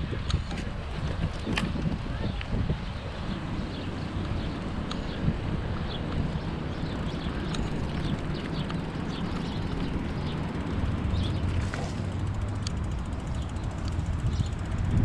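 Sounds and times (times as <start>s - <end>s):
rumble of wind and tyres: 0.0s - 15.0s.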